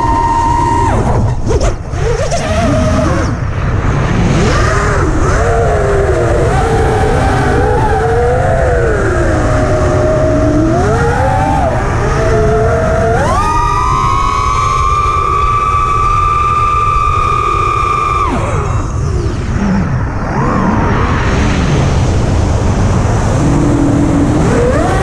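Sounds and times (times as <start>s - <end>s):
drone motors whining: 0.0s - 22.3s, 23.2s - 25.0s
wind rumble: 0.0s - 25.0s.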